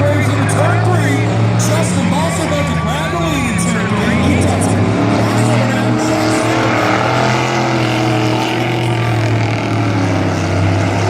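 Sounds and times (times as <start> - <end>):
race truck engines droning: 0.0 - 11.0.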